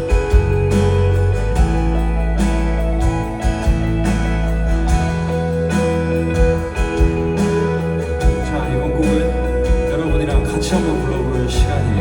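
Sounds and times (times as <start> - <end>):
bass line: 0.0 - 12.0
lead guitar: 0.0 - 12.0
live band playing: 0.0 - 12.0.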